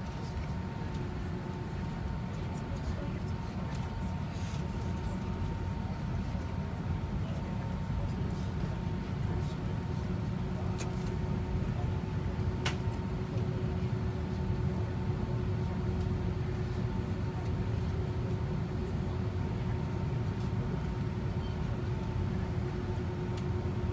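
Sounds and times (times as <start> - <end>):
airliner cabin rumble and hum: 0.0 - 23.9.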